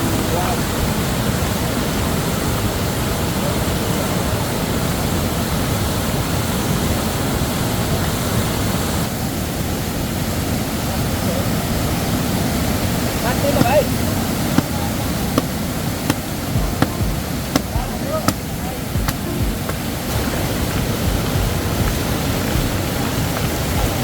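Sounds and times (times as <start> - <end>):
mountain river rushing over stones: 0.0 - 24.0.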